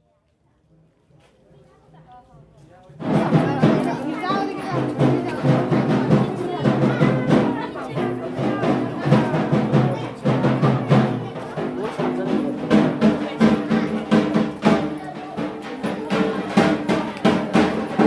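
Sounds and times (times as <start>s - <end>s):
drum beats: 3.0s - 18.0s.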